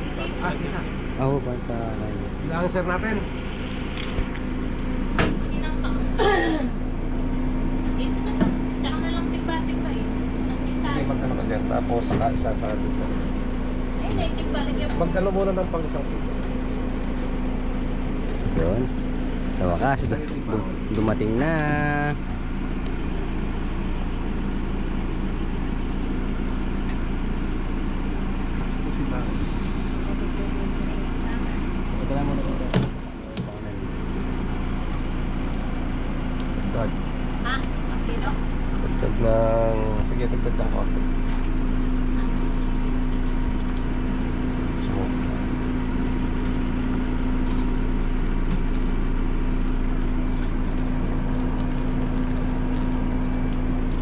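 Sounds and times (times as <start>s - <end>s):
motor humming: 0.0s - 54.0s
van engine idling: 0.0s - 54.0s.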